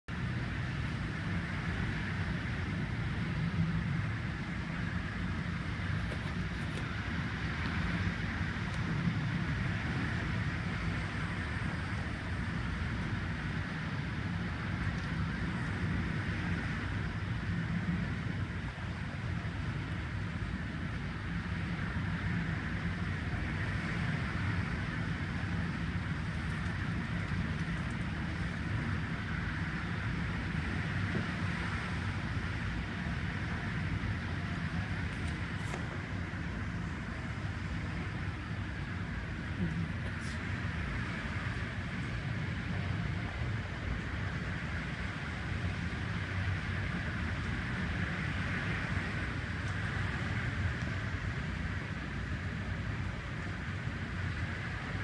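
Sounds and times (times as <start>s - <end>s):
driving rain: 0.1s - 55.0s
wind buffeting microphone: 0.1s - 55.0s.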